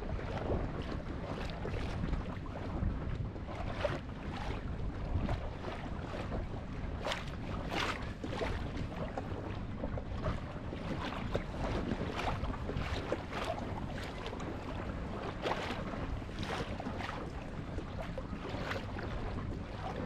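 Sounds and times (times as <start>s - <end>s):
water splashing against boat hull: 0.0s - 20.0s.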